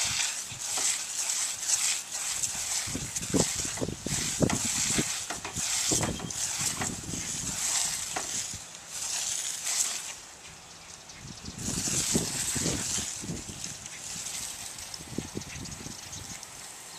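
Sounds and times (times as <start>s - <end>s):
hose spray hissing onto grass: 0.0s - 16.9s.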